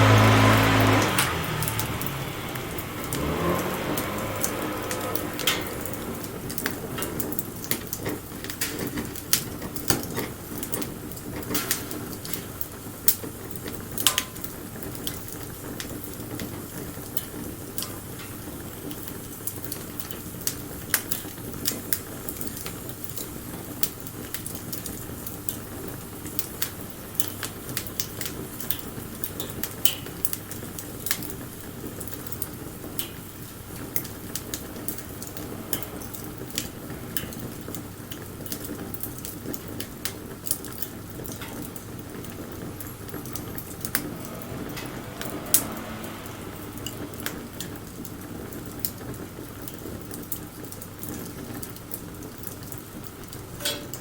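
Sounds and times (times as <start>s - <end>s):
low rush of flame: 0.0s - 23.2s, 23.8s - 54.0s
fire crackling and popping: 0.0s - 54.0s.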